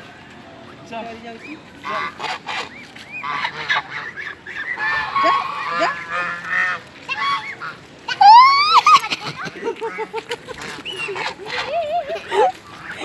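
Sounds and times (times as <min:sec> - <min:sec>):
ducks honking: 0:01.3 - 0:13.0.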